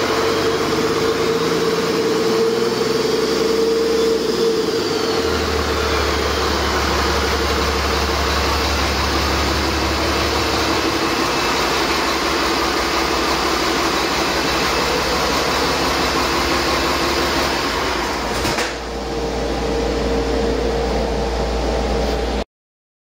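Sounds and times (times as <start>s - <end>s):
engine hiss: 0.0s - 19.6s
diesel engine running: 0.0s - 22.4s.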